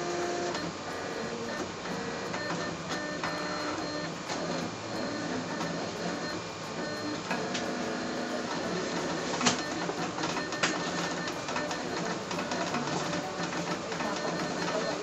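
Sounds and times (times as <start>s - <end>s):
cutting plotter motors running: 0.0s - 15.0s.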